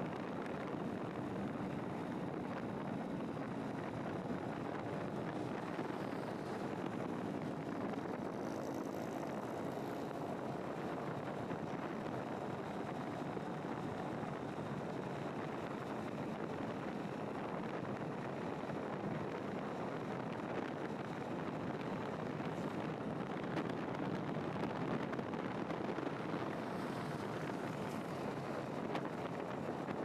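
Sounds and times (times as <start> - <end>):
vehicle road noise: 0.0 - 30.0
wind rushing over microphone: 0.0 - 30.0.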